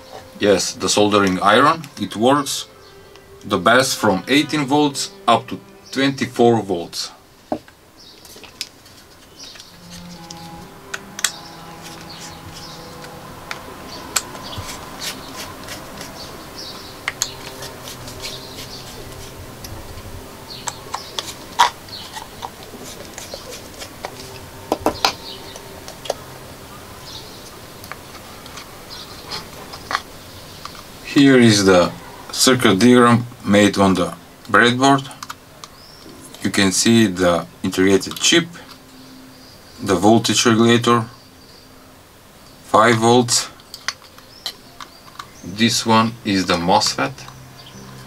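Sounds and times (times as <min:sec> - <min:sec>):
faint steady tones: 0:00.0 - 0:48.0.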